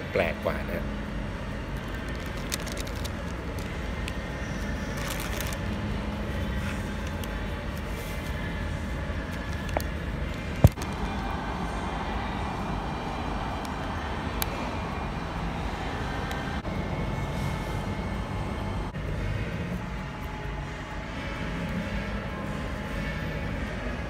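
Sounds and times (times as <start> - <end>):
restaurant background hum: 0.0 - 24.0.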